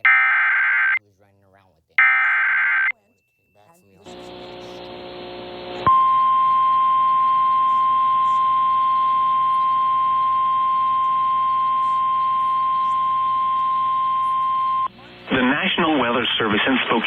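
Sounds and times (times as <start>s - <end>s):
loud steady alarm tone: 0.0s - 1.0s, 2.0s - 2.9s, 4.0s - 16.4s.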